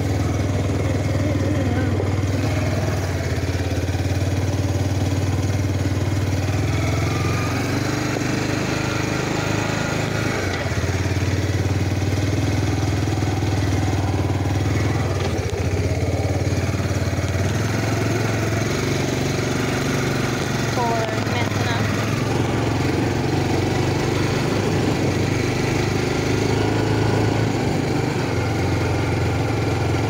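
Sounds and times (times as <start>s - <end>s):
off-road vehicle engine running: 0.0s - 30.0s.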